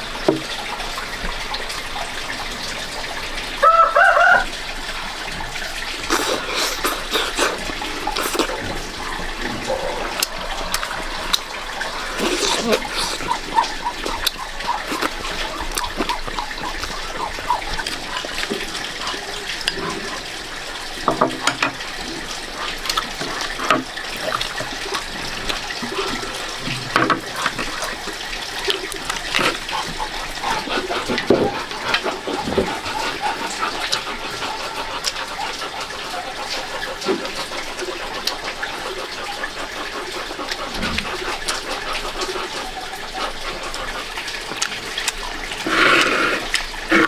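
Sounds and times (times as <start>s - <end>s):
water running and splashing: 0.0s - 47.0s.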